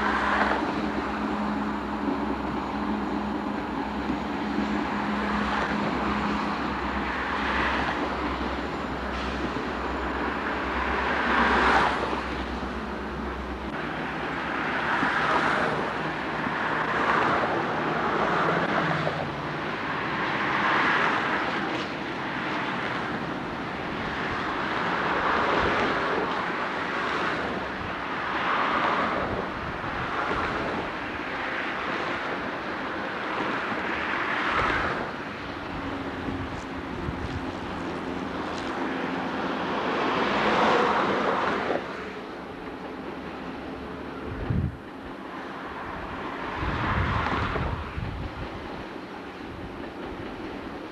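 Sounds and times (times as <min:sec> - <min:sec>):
train wheels rushing on rail: 0:00.0 - 0:50.9.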